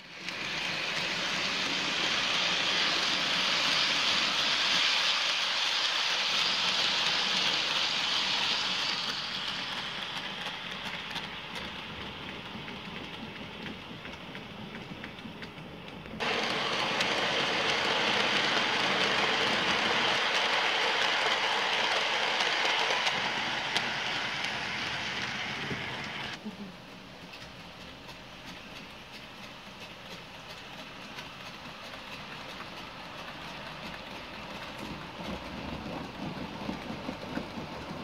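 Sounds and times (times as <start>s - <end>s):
model train rolling on track: 0.0s - 38.0s.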